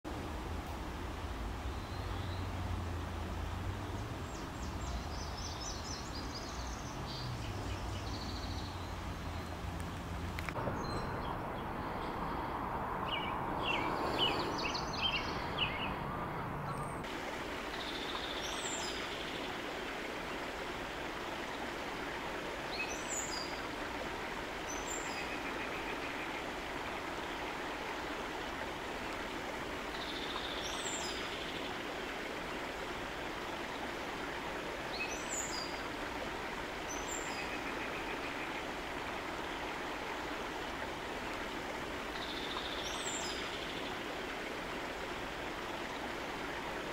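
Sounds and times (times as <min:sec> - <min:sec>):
river rushing: 0:00.1 - 0:46.9.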